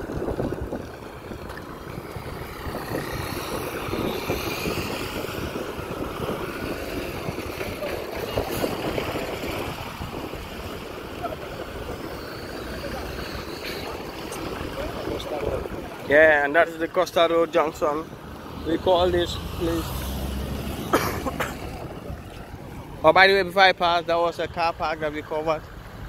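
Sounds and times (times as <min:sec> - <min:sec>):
wind on microphone: 0:00.0 - 0:16.7, 0:18.0 - 0:23.0
traffic on dirt road: 0:00.0 - 0:26.0.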